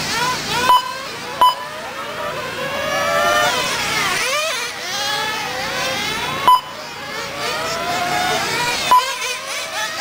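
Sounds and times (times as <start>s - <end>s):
rc car engines screaming: 0.0s - 10.0s.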